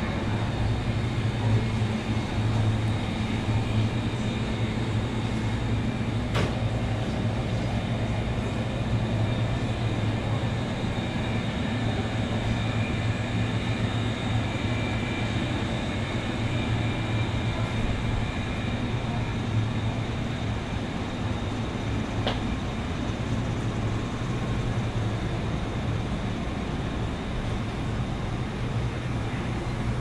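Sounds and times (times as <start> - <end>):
refrigerated display cases humming: 0.0 - 30.0
thin steady whine: 0.0 - 30.0.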